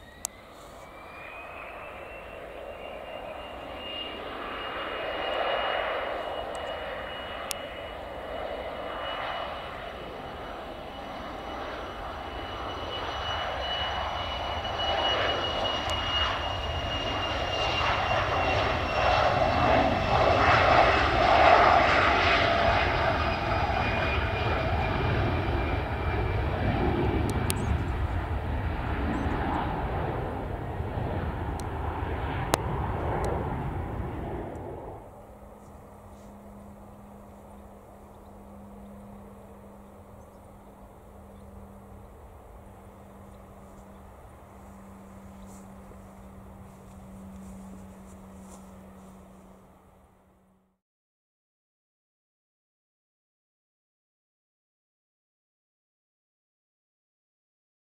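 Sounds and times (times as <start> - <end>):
jet engine roar: 0.0 - 50.3
jet engine whine: 0.0 - 50.8.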